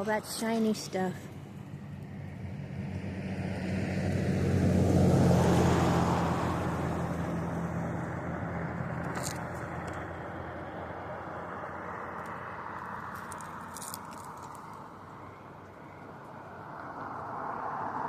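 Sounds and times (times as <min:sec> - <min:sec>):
car passing by: 0:01.3 - 0:18.0.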